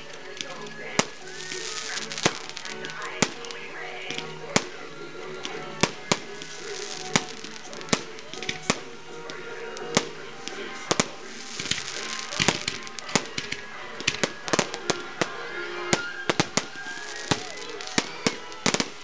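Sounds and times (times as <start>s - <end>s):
background music: 0.0s - 19.0s
fireworks bangs and cracks: 0.0s - 19.0s.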